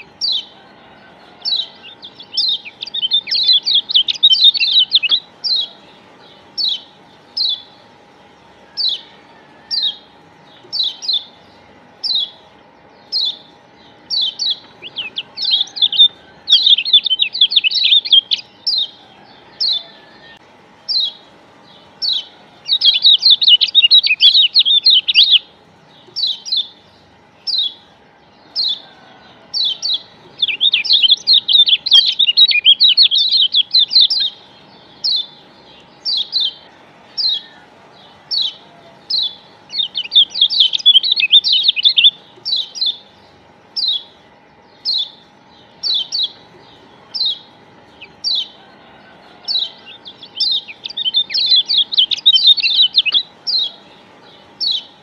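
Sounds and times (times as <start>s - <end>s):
bird calling in high chirps: 0.0s - 48.8s, 49.4s - 55.0s
bird fast chattering: 1.4s - 20.0s, 20.8s - 27.9s, 28.6s - 44.2s, 44.8s - 48.7s, 49.4s - 55.0s.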